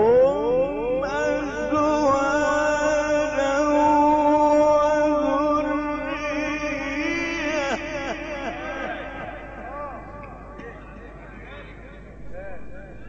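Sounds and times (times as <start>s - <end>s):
man reciting in long notes: 0.0s - 13.0s.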